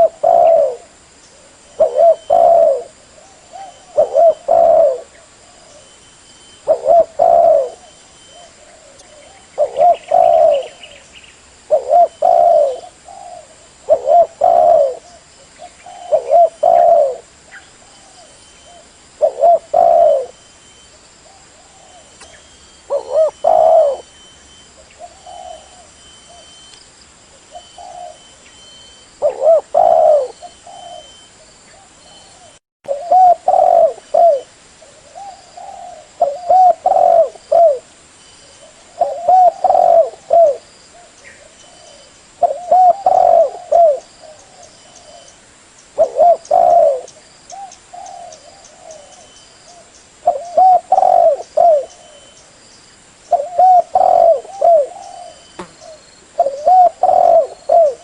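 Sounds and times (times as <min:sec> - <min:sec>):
dove cooing: 0:00.0 - 0:11.0, 0:11.7 - 0:20.4, 0:21.2 - 0:26.6, 0:27.4 - 0:37.9, 0:38.5 - 0:45.4, 0:46.0 - 0:52.4, 0:53.3 - 0:58.0.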